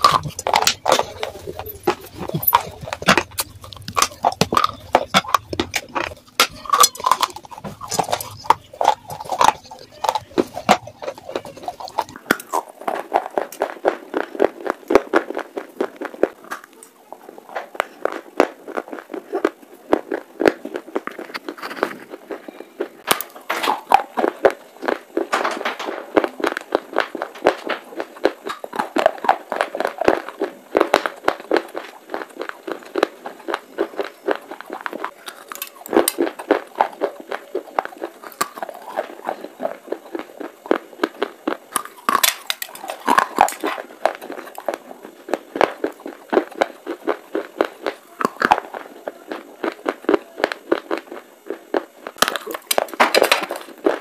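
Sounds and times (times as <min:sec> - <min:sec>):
crisp crunching chewing: 0:00.0 - 0:54.0.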